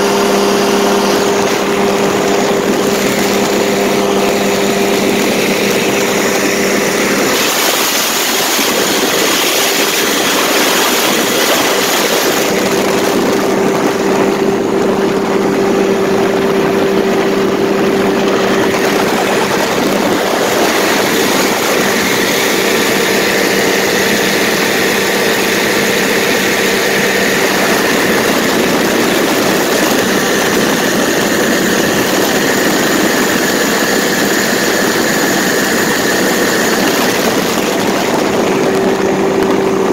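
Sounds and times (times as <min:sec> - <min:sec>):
paramotor engine and propeller: 0:00.0 - 0:39.9
wind noise on microphone: 0:00.0 - 0:39.9.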